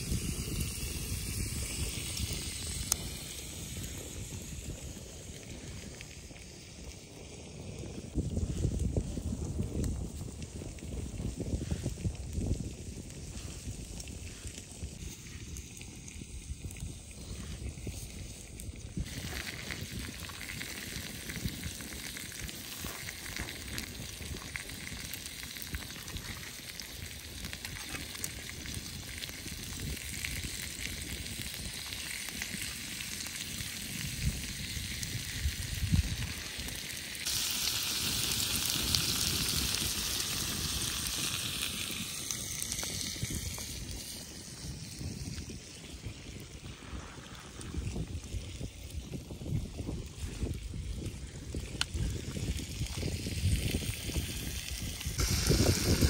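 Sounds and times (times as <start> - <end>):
food frying sizzle: 0.0 - 56.0.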